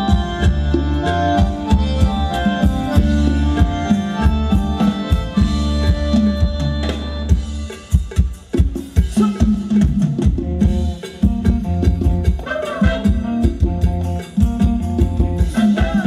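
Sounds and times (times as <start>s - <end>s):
drums steady beat: 0.0s - 16.0s
live band dance music: 0.0s - 16.0s.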